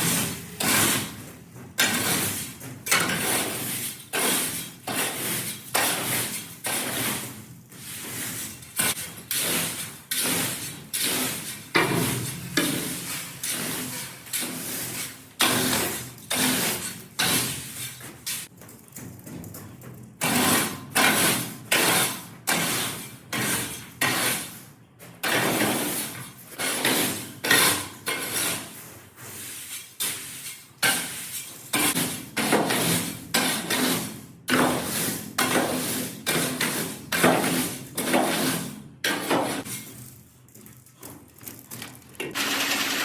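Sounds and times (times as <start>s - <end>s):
shovel scraping corn on steel floor: 0.0s - 18.5s, 20.2s - 40.3s.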